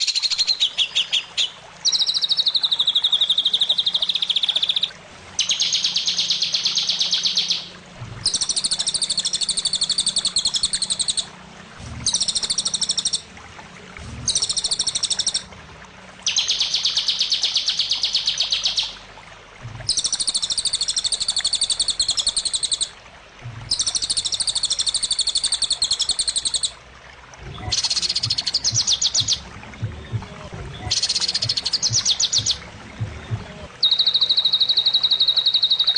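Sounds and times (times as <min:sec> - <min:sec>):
songbird trilling: 0:00.0 - 0:11.3, 0:12.0 - 0:13.3, 0:14.3 - 0:15.5, 0:16.2 - 0:19.0, 0:19.9 - 0:23.0, 0:23.7 - 0:26.8, 0:27.6 - 0:29.4, 0:30.0 - 0:35.9.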